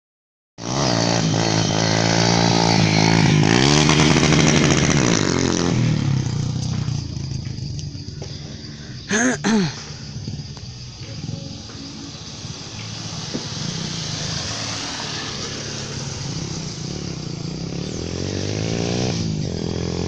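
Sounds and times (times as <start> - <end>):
motorcycle engine revving: 0.6 - 20.0.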